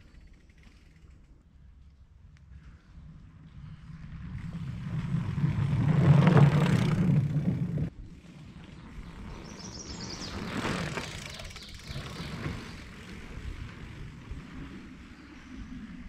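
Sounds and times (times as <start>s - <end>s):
bike tyres rolling over wooden boards: 2.6s - 16.0s.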